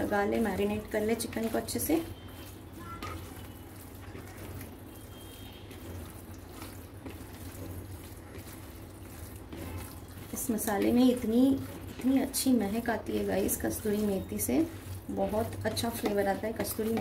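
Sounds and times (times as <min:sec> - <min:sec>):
hand squelching raw chicken: 0:00.6 - 0:17.0.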